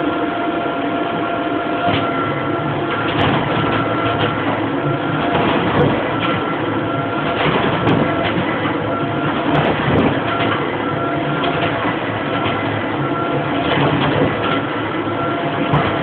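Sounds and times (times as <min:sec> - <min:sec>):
valves and crankshaft knocking: 0:02.8 - 0:16.0.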